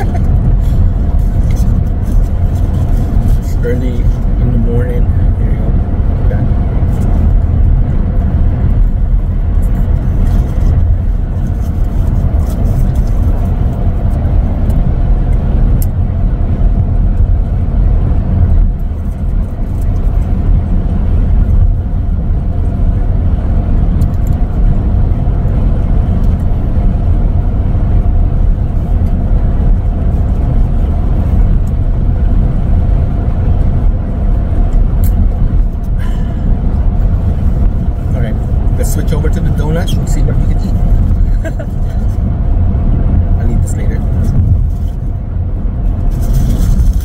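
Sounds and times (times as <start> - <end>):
road and tyre rumble: 0.0 - 47.0.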